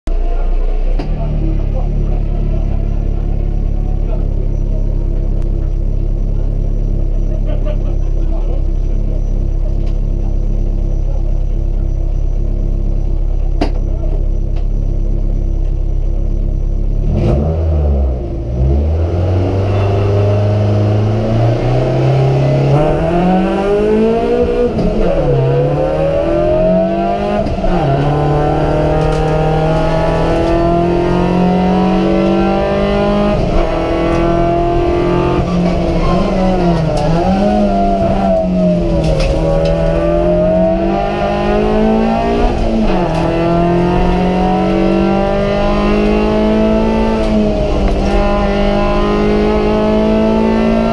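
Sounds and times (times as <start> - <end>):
car engine accelerating through gears: 0.1 - 50.9.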